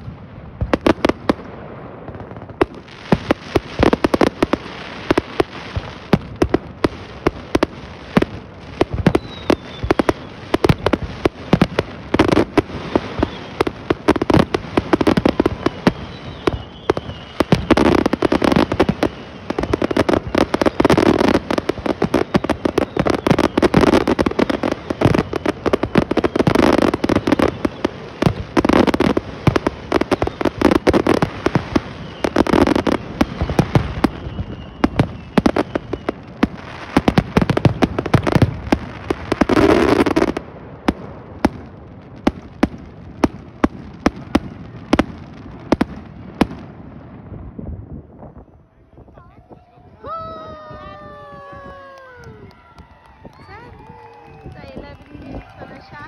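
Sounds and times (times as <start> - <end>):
scattered firework pops: 0.0 - 46.6, 50.1 - 56.0
fireworks bursting and crackling: 0.0 - 56.0.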